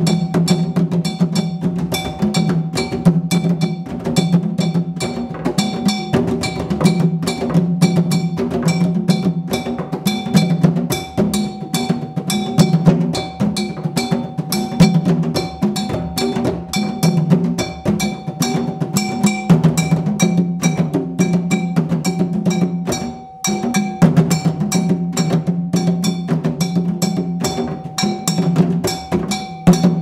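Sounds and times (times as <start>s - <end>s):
hand drums ensemble: 0.0s - 30.0s
sharp high drum strokes: 0.0s - 30.0s.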